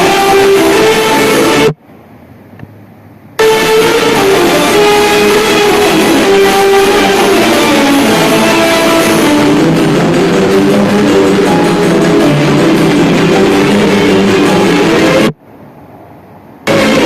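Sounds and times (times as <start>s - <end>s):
loud music: 0.0s - 1.8s, 3.4s - 15.4s, 16.7s - 17.0s.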